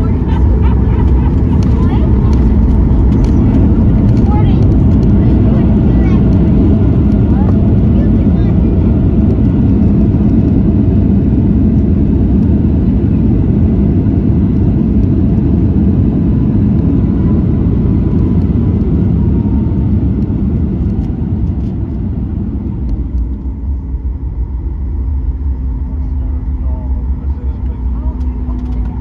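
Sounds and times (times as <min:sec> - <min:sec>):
airplane cabin rumble on runway: 0:00.0 - 0:29.0.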